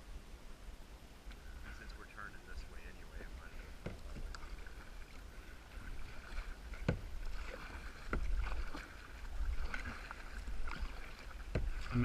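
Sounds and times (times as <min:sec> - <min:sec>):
wind rumble on microphone: 0:00.0 - 0:12.0
paddle strokes in water: 0:01.2 - 0:12.0.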